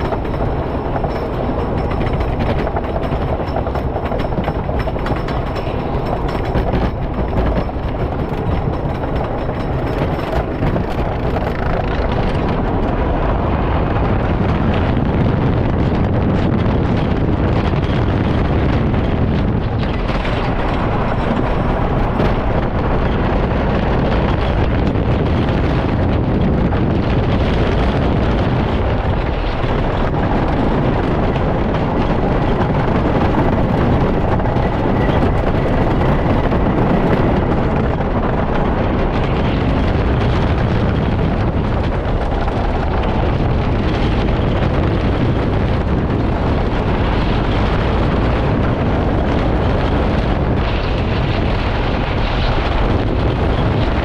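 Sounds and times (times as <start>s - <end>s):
roller coaster rumbling on wooden track: 0.0s - 54.0s
wind rushing over microphone: 0.0s - 54.0s.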